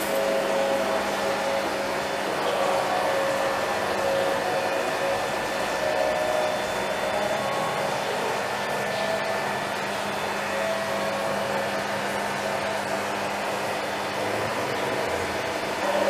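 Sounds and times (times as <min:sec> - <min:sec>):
rushing machine noise: 0:00.0 - 0:16.0.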